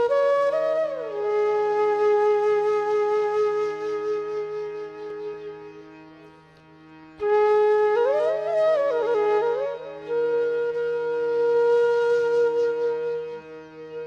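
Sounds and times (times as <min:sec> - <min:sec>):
ornamented melody line: 0:00.0 - 0:14.0.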